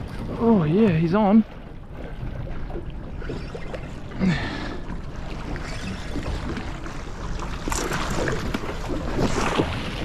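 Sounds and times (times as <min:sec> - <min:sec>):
outboard motor running: 0:00.0 - 0:10.0
rushing water: 0:00.0 - 0:10.0.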